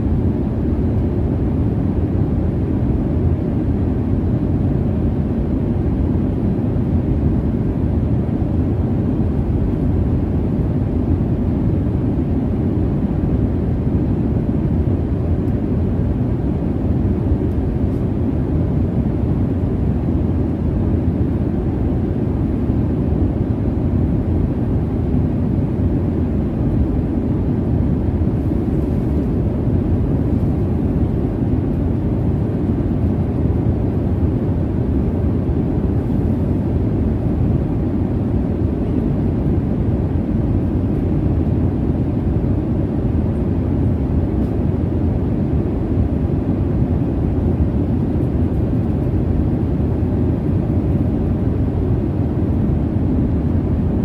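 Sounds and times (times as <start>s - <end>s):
jet cabin drone: 0.0s - 54.0s.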